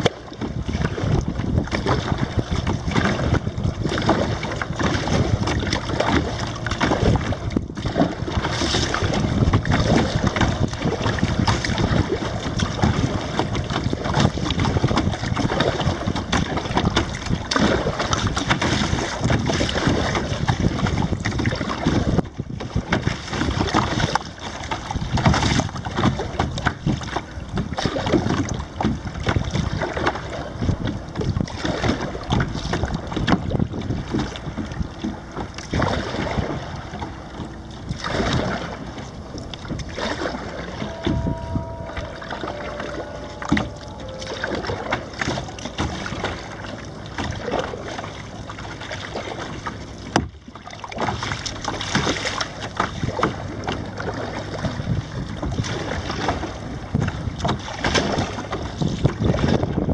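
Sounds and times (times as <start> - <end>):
water splashing against kayak hull: 0.0 - 59.9.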